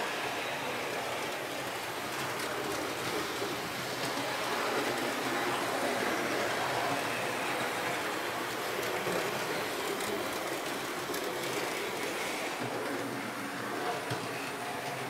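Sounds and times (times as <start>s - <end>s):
model train rolling rumble: 0.0s - 15.0s.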